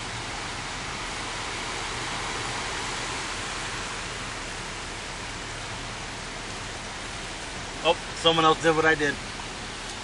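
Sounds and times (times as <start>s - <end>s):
water rushing on flooded street: 0.0s - 10.0s.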